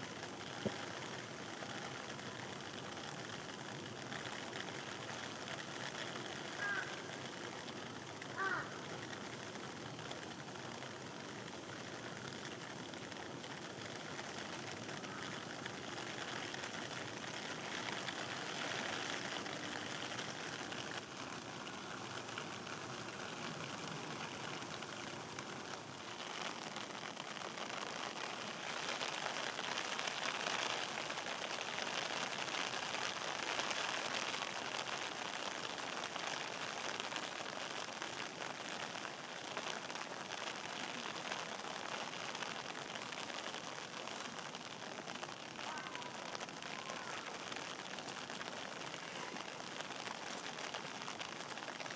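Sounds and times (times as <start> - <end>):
rain falling on grass and concrete: 0.0 - 51.9.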